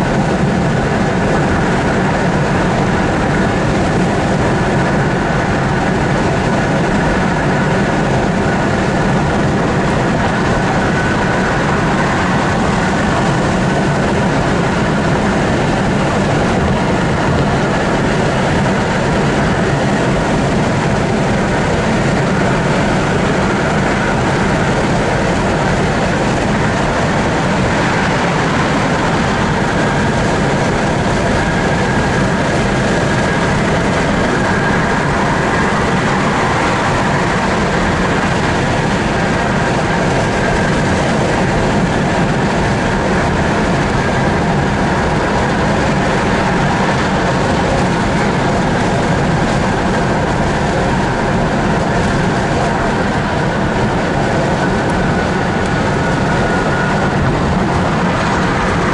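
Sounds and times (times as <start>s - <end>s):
car road noise at speed: 0.0s - 58.9s.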